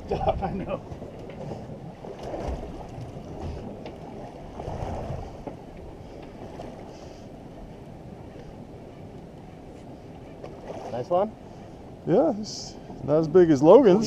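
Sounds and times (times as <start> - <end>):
wind and sea rumble: 0.0 - 14.0.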